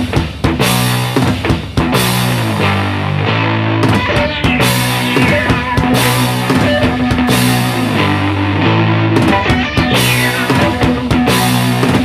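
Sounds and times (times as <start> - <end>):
rock music with drums: 0.0 - 12.0.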